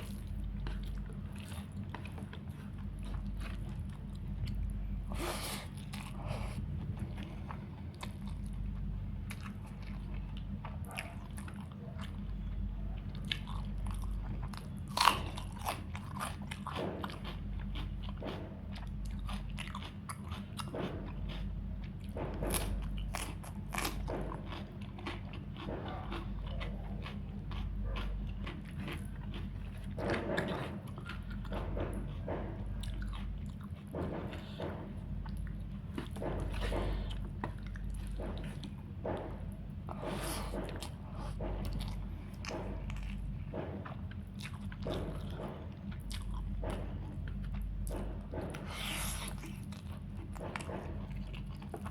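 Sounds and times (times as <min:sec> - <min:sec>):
chewing and biting: 0:00.0 - 0:51.9
steady low hum: 0:00.0 - 0:51.9.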